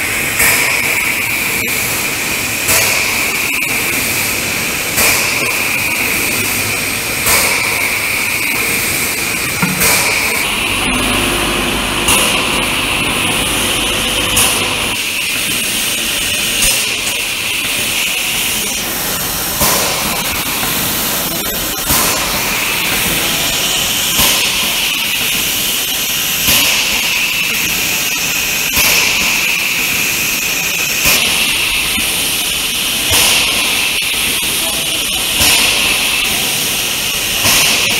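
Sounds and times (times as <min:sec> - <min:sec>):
packing machinery hissing: 0:00.0 - 0:37.9.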